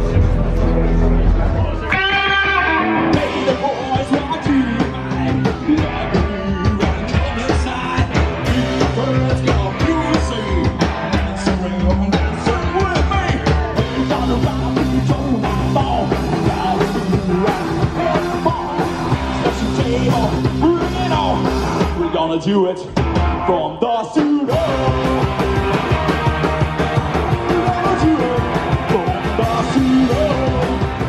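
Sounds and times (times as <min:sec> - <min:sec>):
busy drum kit: 0:00.0 - 0:31.0
fast electric guitar: 0:00.0 - 0:31.0.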